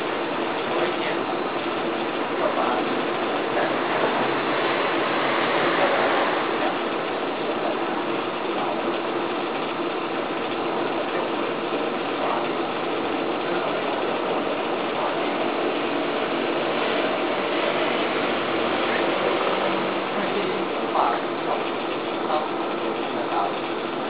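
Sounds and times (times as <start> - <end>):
kiln rushing whirring: 0.0 - 24.0.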